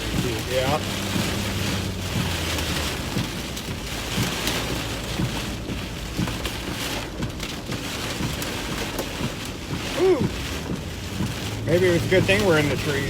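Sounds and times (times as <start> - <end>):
heavy rain on a vehicle: 0.0 - 13.0.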